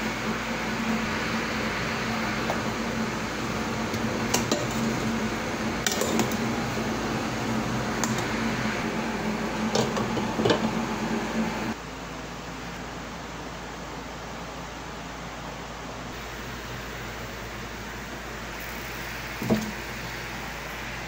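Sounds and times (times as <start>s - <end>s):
gas stove hum and hiss: 0.0s - 21.0s.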